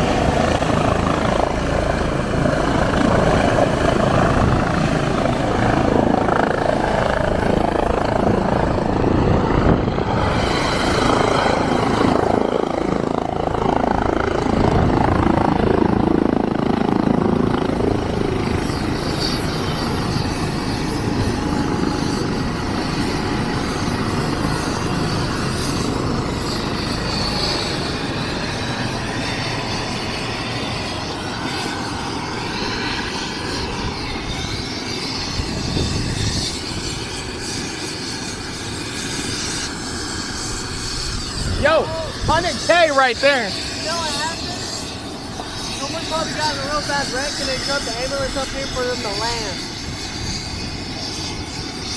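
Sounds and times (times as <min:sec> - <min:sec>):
helicopter rotor and engine: 0:00.0 - 0:51.9.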